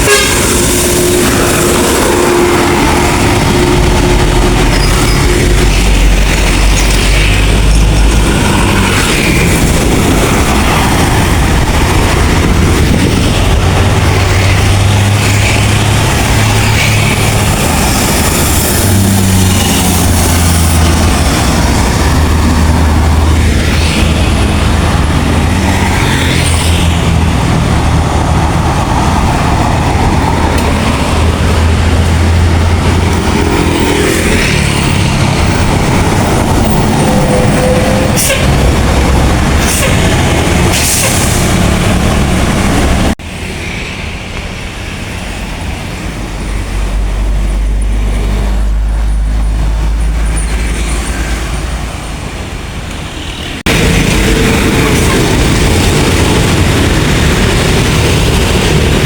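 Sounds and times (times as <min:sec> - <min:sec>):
diesel bus engines droning: 0:00.0 - 0:59.0
tyre and road noise: 0:00.0 - 0:59.0.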